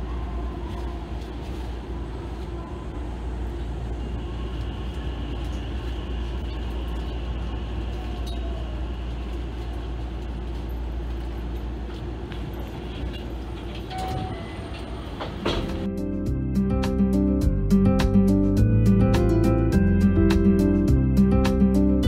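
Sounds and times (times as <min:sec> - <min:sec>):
electric train running rumble: 0:00.0 - 0:22.0.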